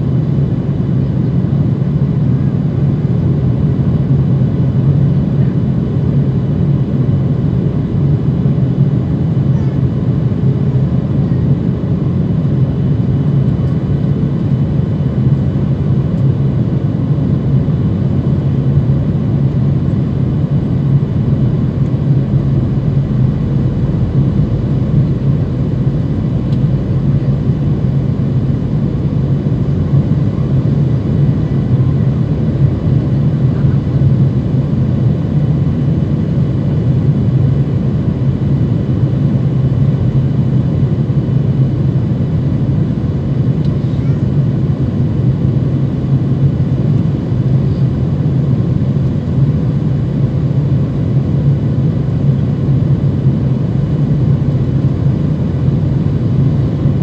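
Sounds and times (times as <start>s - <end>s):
airplane cabin engine drone: 0.0s - 57.0s
faint steady whines: 0.0s - 57.0s.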